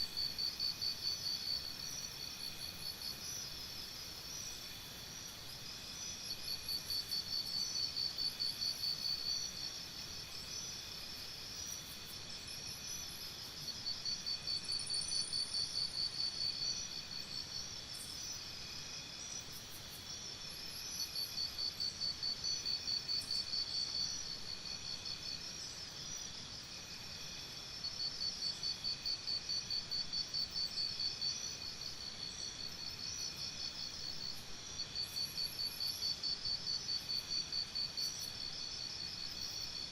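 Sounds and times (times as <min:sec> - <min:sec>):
loud pulsing insect trill: 0:00.1 - 0:39.9.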